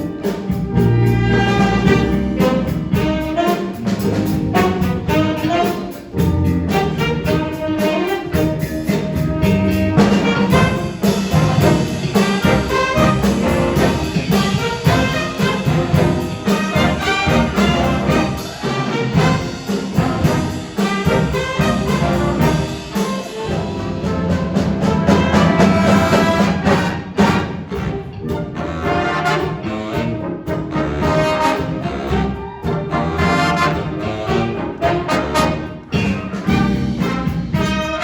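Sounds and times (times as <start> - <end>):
bass: 0.0 - 38.0
brass: 0.0 - 38.0
drums: 0.0 - 38.0
keyboards: 0.0 - 38.0
saxophones: 0.0 - 38.0.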